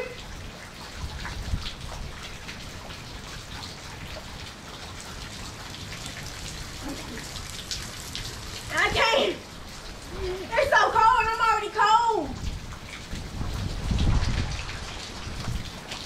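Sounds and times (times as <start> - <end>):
raindrops ticking on surfaces: 0.0 - 16.0
steady rain falling: 0.0 - 16.0.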